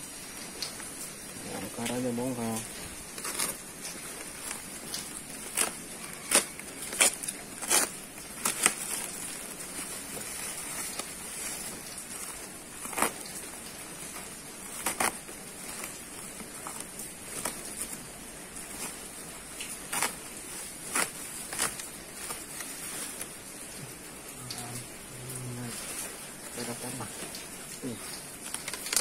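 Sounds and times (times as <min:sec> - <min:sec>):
bubble wrap crinkling and crackling: 0:00.0 - 0:29.0.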